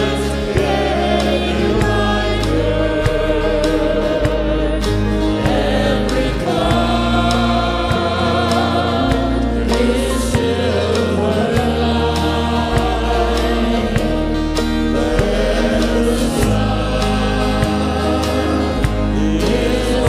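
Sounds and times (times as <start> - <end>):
drum kit beats: 0.0 - 20.0
held bass notes: 0.0 - 20.0
live band playing: 0.0 - 20.0.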